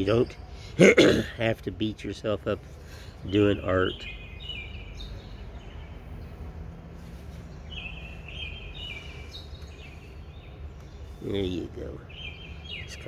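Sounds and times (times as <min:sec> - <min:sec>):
low background noise: 0:00.0 - 0:13.0
songbird chirping: 0:00.0 - 0:13.0.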